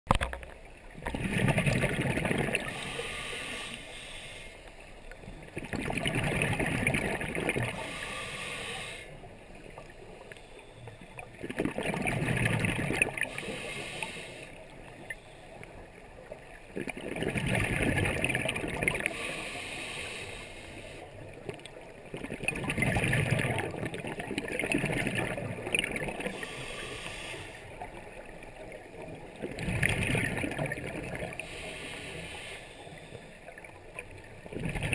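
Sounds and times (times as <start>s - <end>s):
scuba regulator bubbles underwater: 0.1s - 34.9s.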